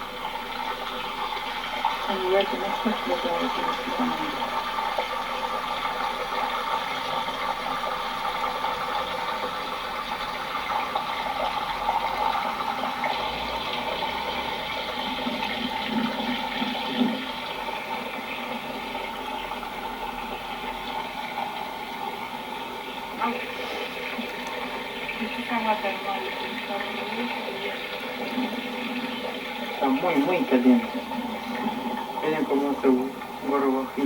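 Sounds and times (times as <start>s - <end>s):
water flowing and bubbling: 0.0s - 34.0s.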